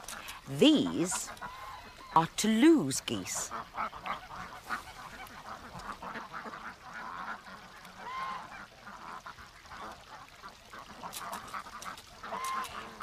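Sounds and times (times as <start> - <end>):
geese calling softly: 0.0 - 13.0.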